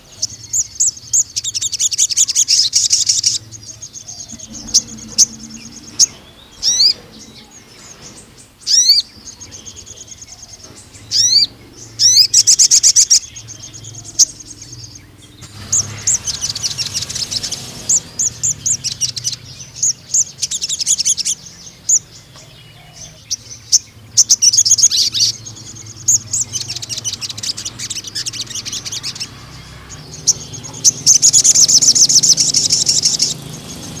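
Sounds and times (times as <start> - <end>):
sunbird singing shrill trills: 0.0 - 34.0.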